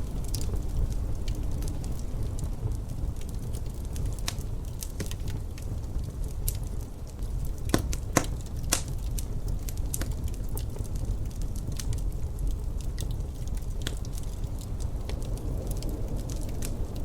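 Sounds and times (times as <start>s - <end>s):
low rumble of wind: 0.0s - 17.0s
wood fire crackling and popping: 0.0s - 17.0s.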